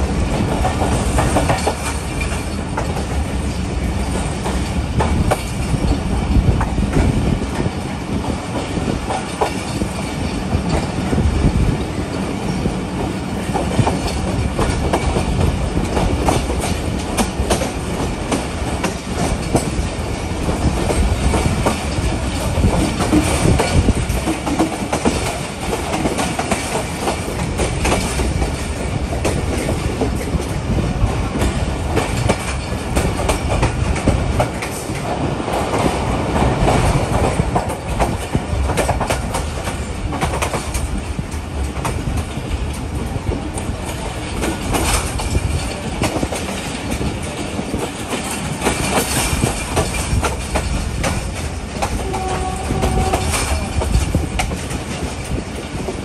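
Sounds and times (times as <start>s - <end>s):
train rumbling along track: 0.0s - 56.0s
wheels clacking over rail joints: 0.0s - 56.0s.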